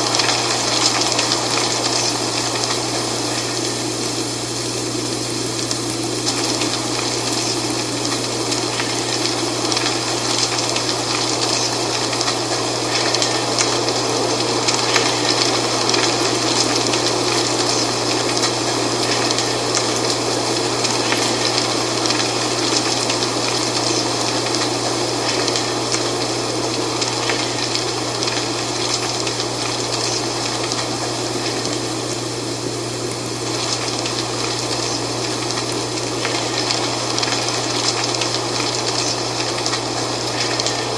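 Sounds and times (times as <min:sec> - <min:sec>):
dry leaves rustling: 0:00.0 - 0:40.9.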